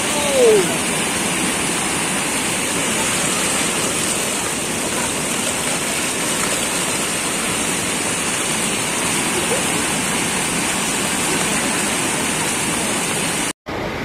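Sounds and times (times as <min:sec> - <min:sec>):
floodwater rushing: 0:00.0 - 0:13.5
rain falling: 0:00.0 - 0:13.5.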